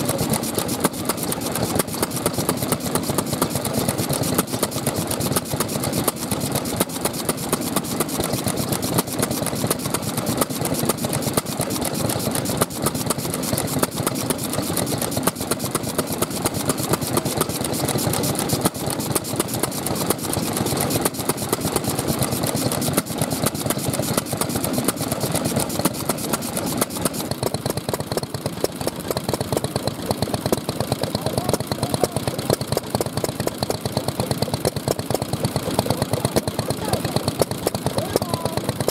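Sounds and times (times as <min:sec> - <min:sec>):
stationary engines chugging: 0:00.0 - 0:38.9.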